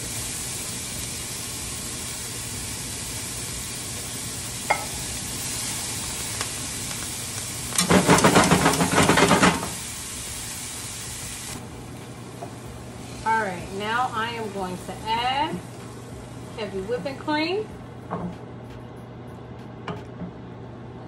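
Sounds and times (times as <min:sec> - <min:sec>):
vegetables sizzling in a skillet: 0:00.0 - 0:17.7.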